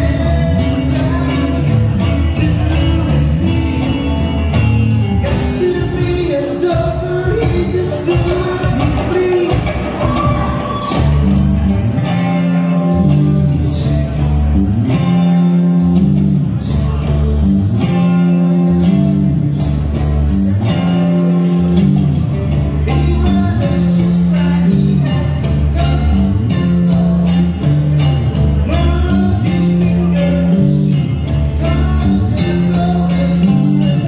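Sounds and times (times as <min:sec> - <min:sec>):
person singing: 0:00.0 - 0:21.9, 0:28.6 - 0:34.0
bass riff: 0:00.0 - 0:34.0
live rock band playing: 0:00.0 - 0:34.0.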